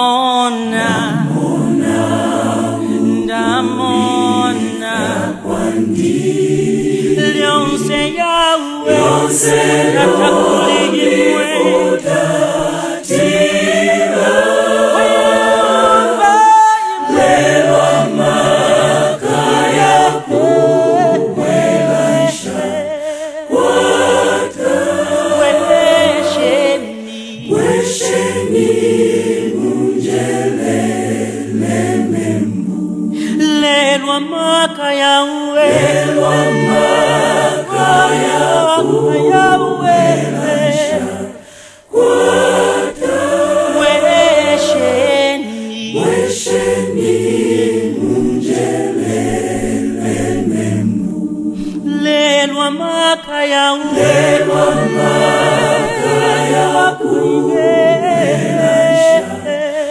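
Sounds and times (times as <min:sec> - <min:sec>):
choir singing gospel in harmony: 0:00.0 - 0:59.9.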